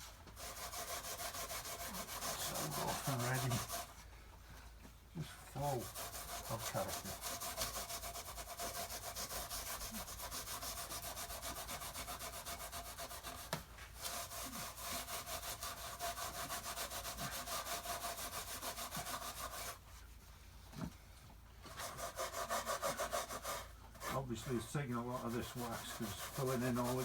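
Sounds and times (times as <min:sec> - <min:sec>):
wax rubbed into wood: 0:00.0 - 0:04.1, 0:05.2 - 0:19.9, 0:21.7 - 0:27.0.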